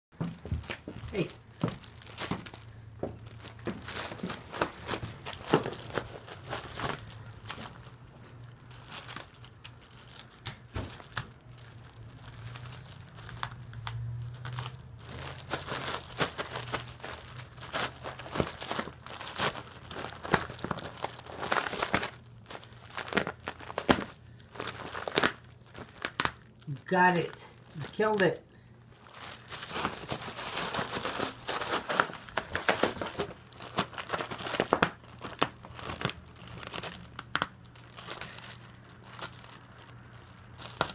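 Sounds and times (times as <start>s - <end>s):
dog tearing packaging: 0.5s - 28.4s, 29.0s - 40.9s.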